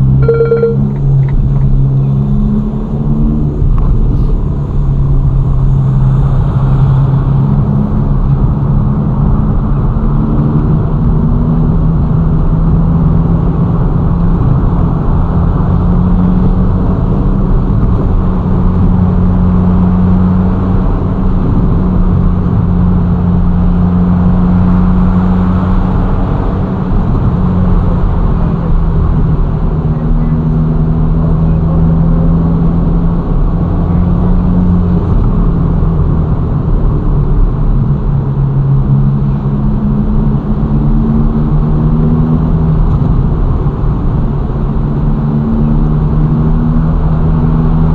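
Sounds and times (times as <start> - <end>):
car engine cruising: 0.0 - 47.9
road noise: 0.0 - 47.9.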